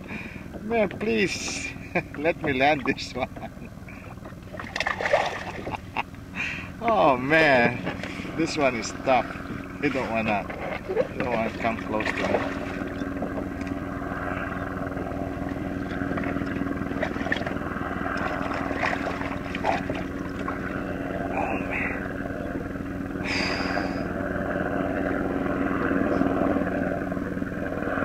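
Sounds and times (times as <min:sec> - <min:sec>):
distant engine drone: 0:00.0 - 0:28.0
water noise: 0:00.0 - 0:28.0
wind: 0:00.0 - 0:28.0.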